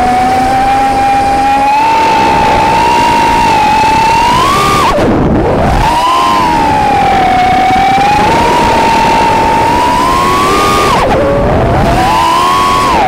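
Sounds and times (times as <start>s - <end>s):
racing drone motor whine: 0.0s - 13.0s
rough low noise: 0.0s - 13.0s.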